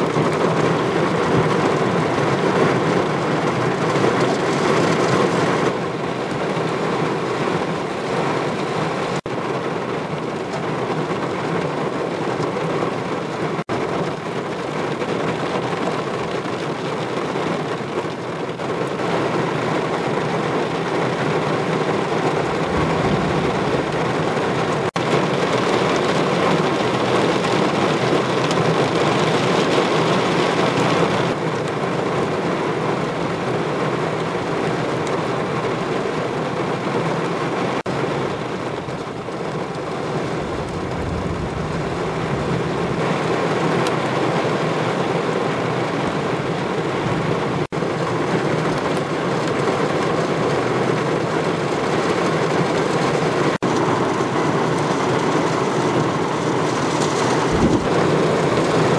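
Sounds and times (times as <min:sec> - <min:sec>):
floodwater cascading over weir: 0:00.0 - 0:58.9.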